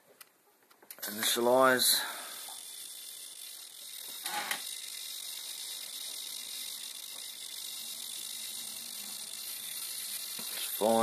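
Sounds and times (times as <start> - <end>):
servos whirring: 1.3 - 11.0.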